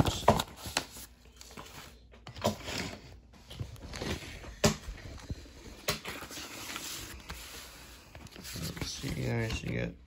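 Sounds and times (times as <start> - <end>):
paper rustling: 0.0 - 4.4, 5.0 - 10.0.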